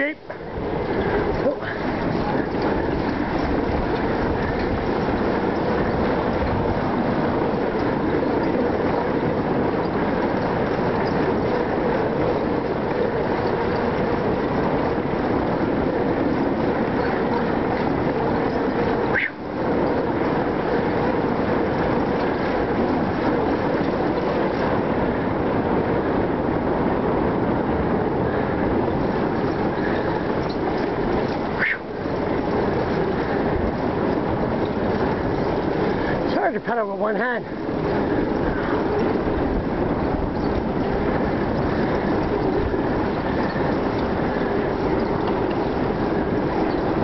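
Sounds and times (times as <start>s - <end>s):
bicycle tyres rolling: 0.0s - 47.0s
wind buffeting microphone: 0.0s - 47.0s.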